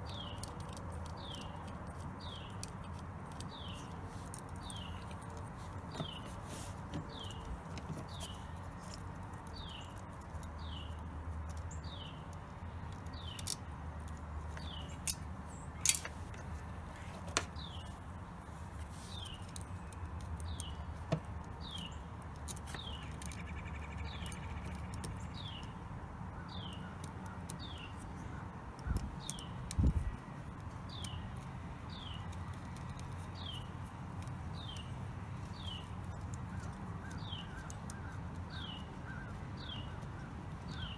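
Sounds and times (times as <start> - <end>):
bird chirping: 0.0 - 40.9
wires and nuts clicking: 0.0 - 40.9.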